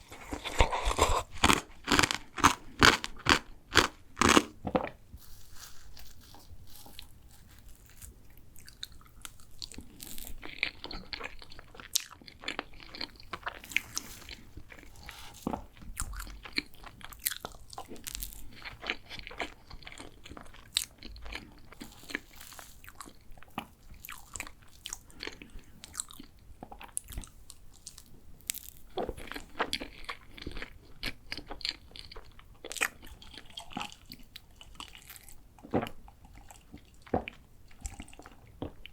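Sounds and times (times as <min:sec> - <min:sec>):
biting and chewing pastry: 0:00.0 - 0:38.9.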